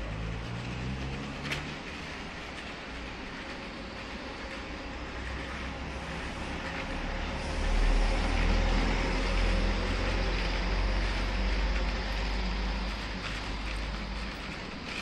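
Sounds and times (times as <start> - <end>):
heavy vehicle engine rumble: 0.0 - 15.0
street traffic: 0.0 - 15.0.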